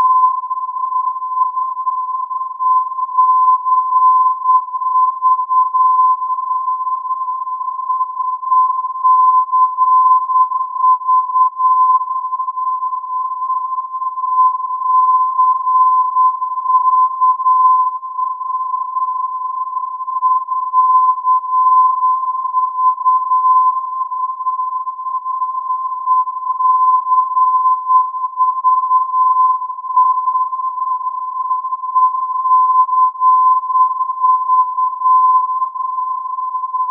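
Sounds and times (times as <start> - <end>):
steady radio beacon whistle: 0.0 - 36.9.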